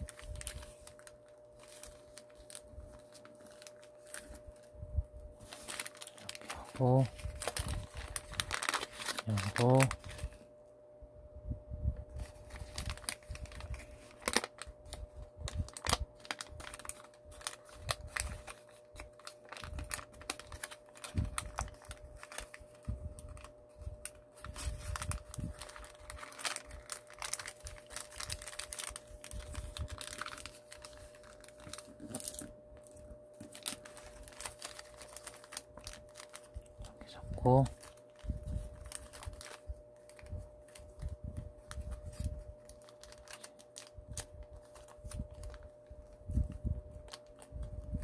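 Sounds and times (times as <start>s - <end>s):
paper rustling and crinkling: 0.0s - 4.7s, 5.4s - 10.5s, 12.1s - 48.0s
faint steady hum: 0.0s - 48.0s.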